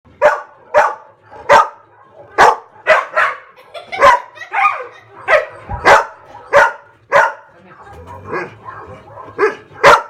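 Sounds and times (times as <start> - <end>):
dog barking: 0.2 - 10.0.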